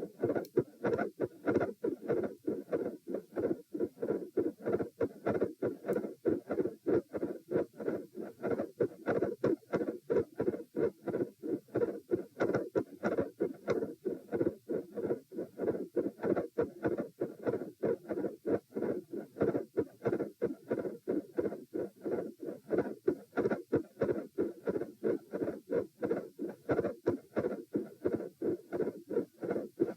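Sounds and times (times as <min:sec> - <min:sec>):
heartbeat through a stethoscope: 0:00.0 - 0:29.9.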